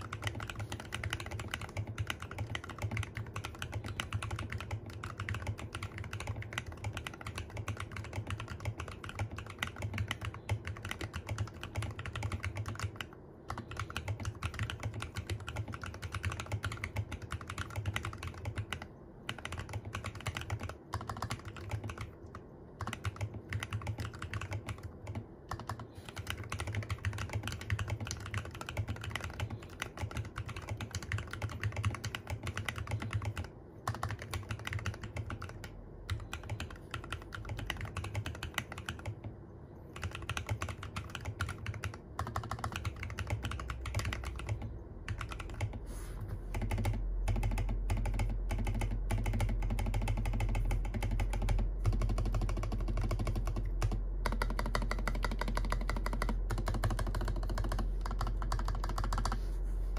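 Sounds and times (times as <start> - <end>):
mechanical keyboard typing: 0.0 - 45.8, 46.4 - 59.5.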